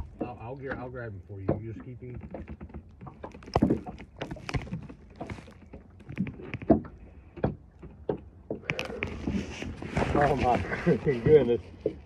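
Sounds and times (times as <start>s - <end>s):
knocks and thumps on boat deck: 0.0s - 12.0s.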